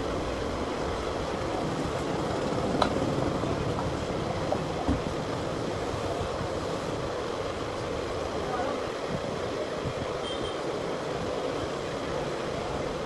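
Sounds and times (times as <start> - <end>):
rumbling street traffic: 0.0 - 13.0.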